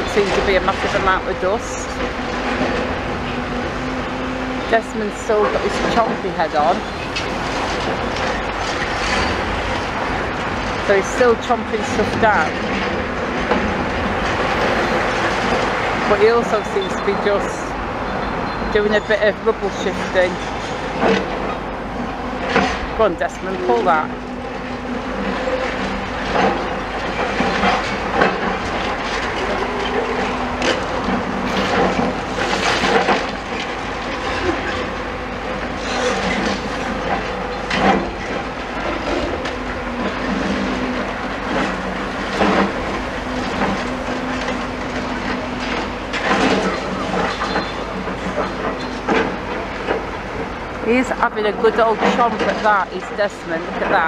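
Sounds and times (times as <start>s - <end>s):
excavator engine drone: 0.0s - 54.0s
masonry and metal crunching: 0.0s - 54.0s.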